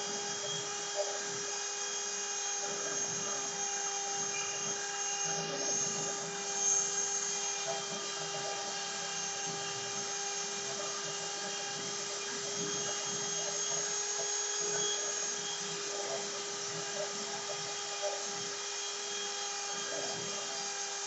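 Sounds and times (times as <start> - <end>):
rough cutting noise: 0.0 - 21.0
router spindle whine: 0.0 - 21.0.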